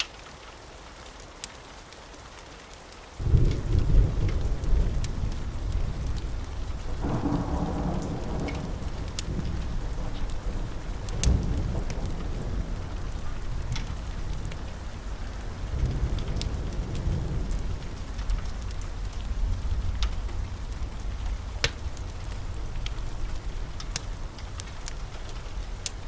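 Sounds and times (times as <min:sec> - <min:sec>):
steady rain: 0:00.0 - 0:26.0
low rolling thunder: 0:03.2 - 0:26.0.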